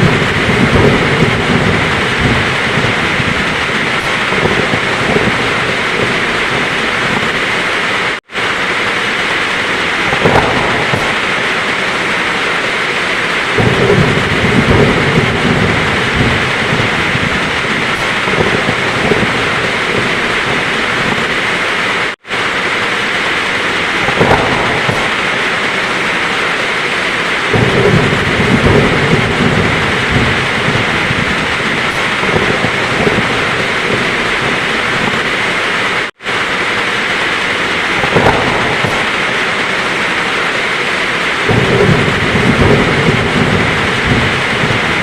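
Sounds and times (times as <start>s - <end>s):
heavy rain falling: 0.0s - 45.0s
rolls of thunder: 0.0s - 45.0s.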